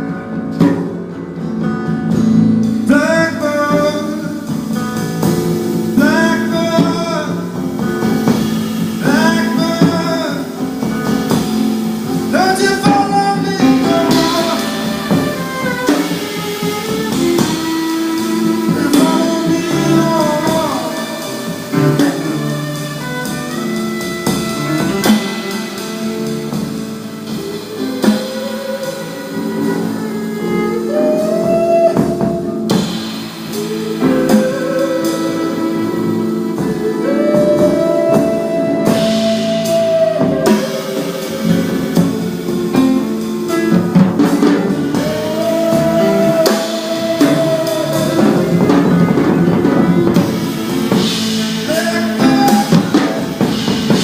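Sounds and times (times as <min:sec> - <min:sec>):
live band playing instrumental: 0:00.0 - 0:54.0
gliding lead melody: 0:02.4 - 0:54.0.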